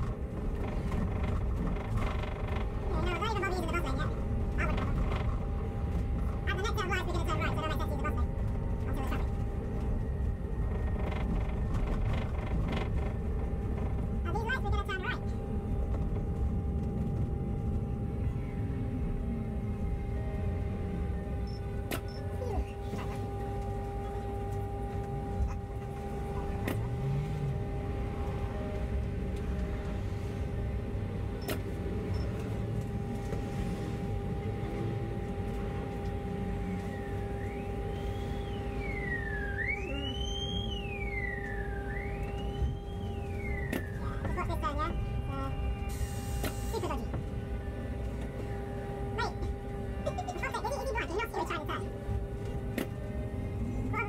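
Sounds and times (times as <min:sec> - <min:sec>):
bus engine and road rumble: 0:00.0 - 0:54.0
siren wailing: 0:02.1 - 0:54.0.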